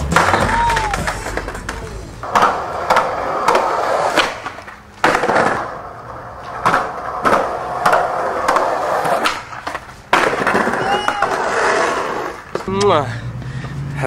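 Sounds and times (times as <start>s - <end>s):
skateboard clacking over joints: 0.0s - 12.9s
skateboard wheels rolling on concrete: 0.0s - 14.0s.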